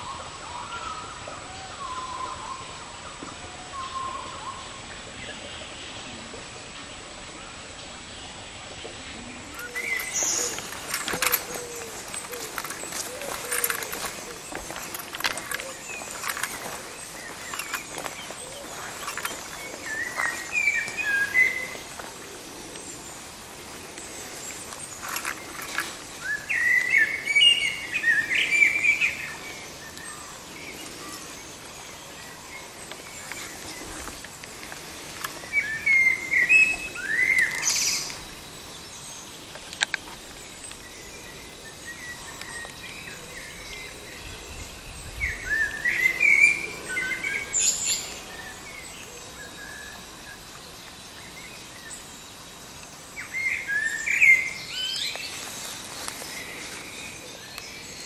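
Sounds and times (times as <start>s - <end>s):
bird warbling song: 8.8s - 58.0s.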